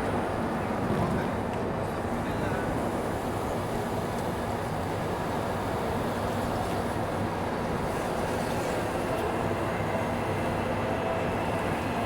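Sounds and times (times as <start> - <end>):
low hum of trains and machinery: 0.0 - 12.0.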